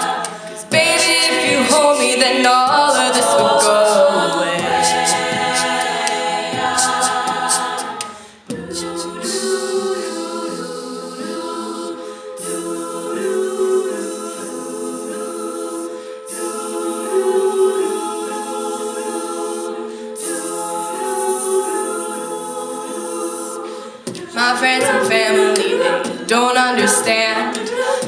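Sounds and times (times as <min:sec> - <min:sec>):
group singing wordless chords: 0:00.0 - 0:28.0
vocal percussion: 0:00.0 - 0:28.0.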